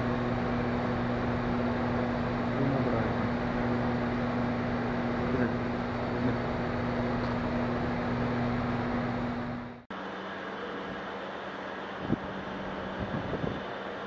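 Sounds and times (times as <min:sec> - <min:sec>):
factory machinery drone: 0:00.0 - 0:14.0
quieter hum: 0:00.0 - 0:14.0.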